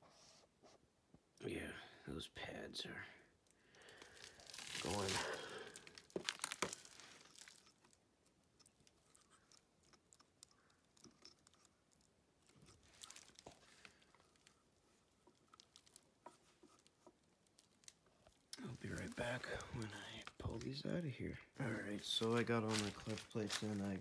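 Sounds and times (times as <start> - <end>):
faint ticks and rustles: 3.4 - 24.0.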